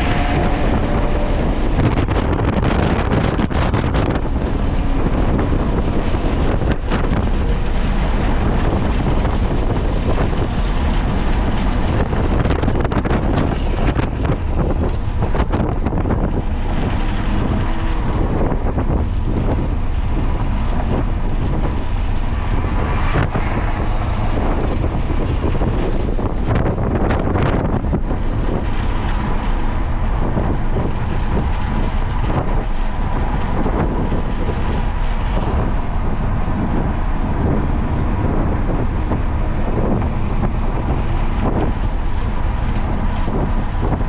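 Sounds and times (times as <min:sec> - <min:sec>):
car engine: 0:00.0 - 0:44.0
wind buffeting microphone: 0:00.0 - 0:44.0.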